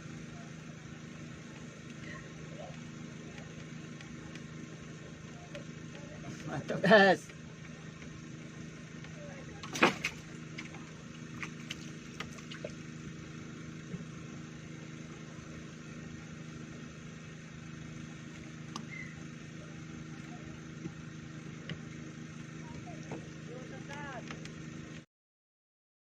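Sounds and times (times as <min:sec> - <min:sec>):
small engine idling: 0:00.0 - 0:25.0.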